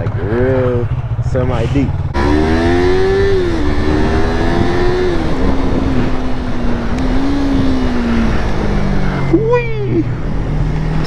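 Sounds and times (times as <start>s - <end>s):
constant rushing noise: 0.0s - 11.0s
motorcycle engine running: 0.0s - 11.0s.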